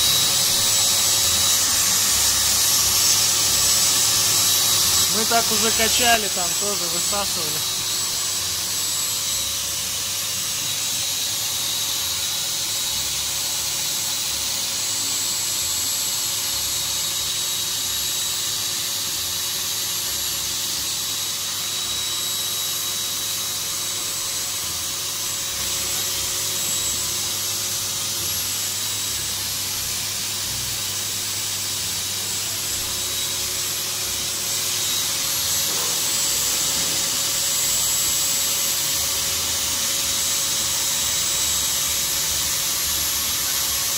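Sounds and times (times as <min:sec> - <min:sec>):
electric air pump whining: 0:00.0 - 0:43.9.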